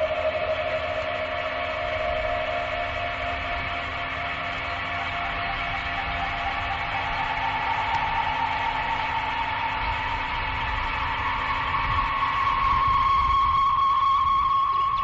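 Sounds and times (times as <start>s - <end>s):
steady droning hum: 0.0s - 15.0s.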